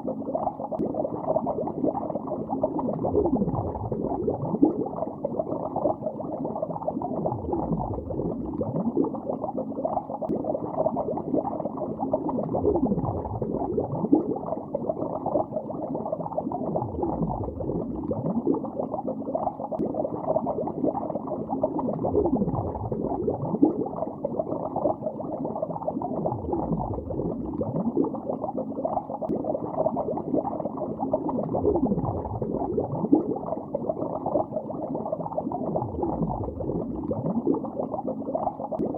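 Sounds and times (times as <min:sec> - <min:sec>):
deep low gurgle: 0:00.0 - 0:38.9
underwater bubbling: 0:00.0 - 0:38.9.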